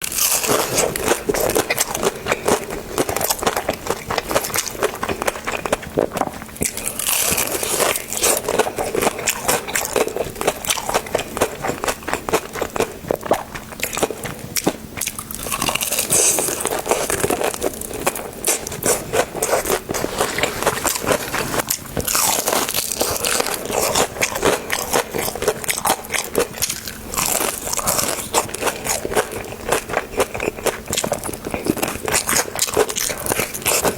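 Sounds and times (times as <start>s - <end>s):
crunchy bites and chewing: 0.0s - 33.9s.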